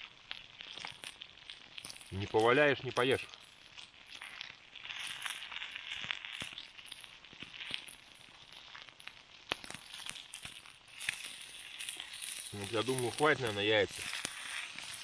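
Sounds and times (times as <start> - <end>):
food sizzling in a frying pan: 0.0 - 15.0
sharp clicks and crackles: 0.0 - 15.0.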